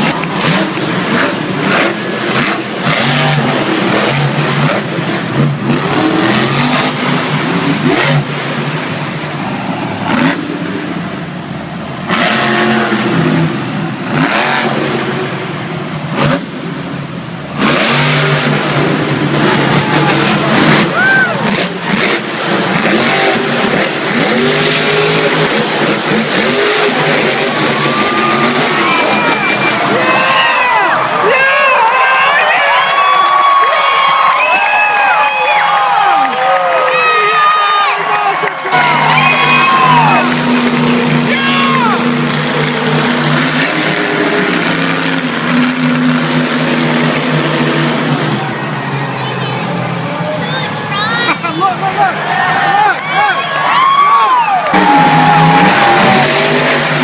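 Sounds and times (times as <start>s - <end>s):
arena crowd noise: 0.0s - 57.0s
monster truck engine revving: 0.0s - 57.0s.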